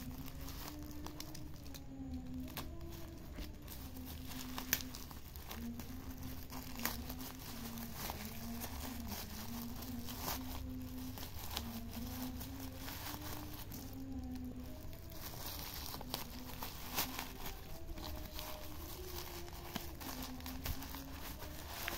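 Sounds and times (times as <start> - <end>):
plastic bag crinkling and tearing: 0.0 - 21.9.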